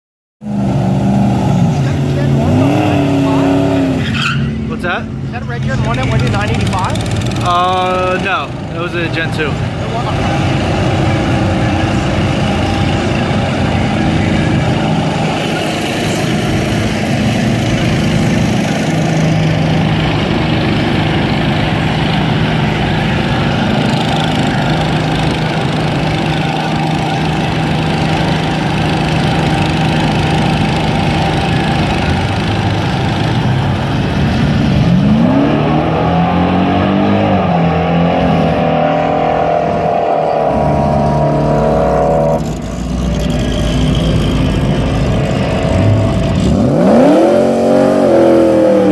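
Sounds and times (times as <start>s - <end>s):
engine revving: 0.4s - 48.9s
truck accelerating through gears: 0.4s - 48.9s
truck engines idling: 0.5s - 35.6s, 38.6s - 48.9s.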